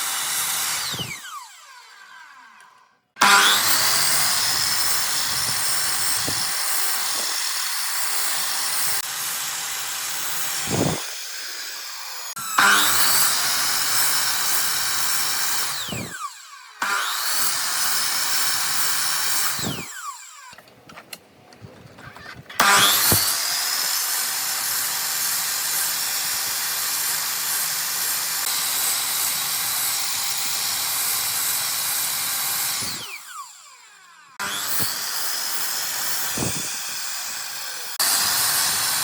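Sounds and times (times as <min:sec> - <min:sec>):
power tool motor whining: 0:00.0 - 0:20.6, 0:22.0 - 0:39.0.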